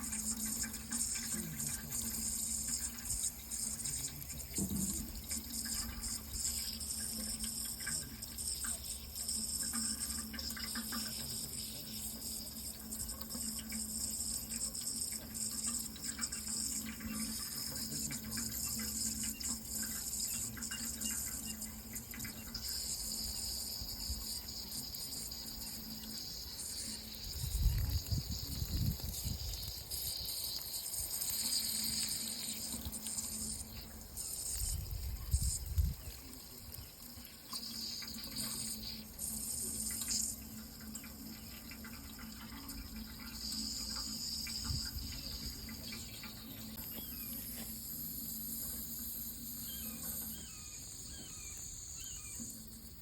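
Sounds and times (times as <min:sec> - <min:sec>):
high-pitched hiss: 0:00.0 - 0:53.0
insects chirring: 0:00.0 - 0:53.0
water running: 0:00.0 - 0:53.0.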